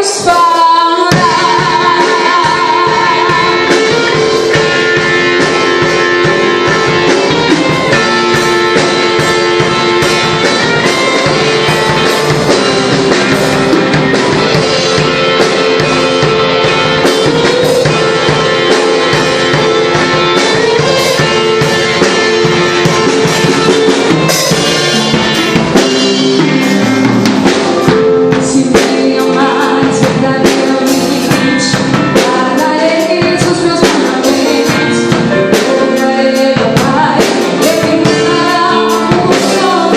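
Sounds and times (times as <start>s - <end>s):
person singing: 0.0s - 15.8s, 17.0s - 39.9s
drum kit: 0.0s - 39.9s
gospel band playing: 0.0s - 39.9s
guitar: 0.0s - 39.9s.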